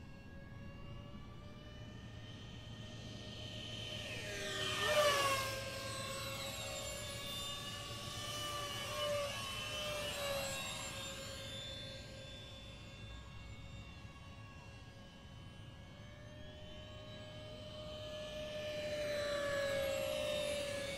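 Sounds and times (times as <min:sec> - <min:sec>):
model jet fans whining: 0:00.0 - 0:20.9.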